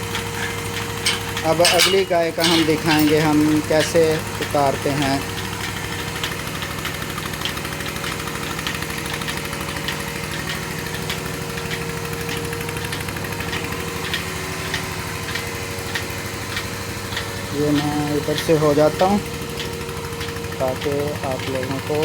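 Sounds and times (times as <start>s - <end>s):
pulsator clicking: 0.0s - 22.0s
vacuum pump running: 0.0s - 22.0s.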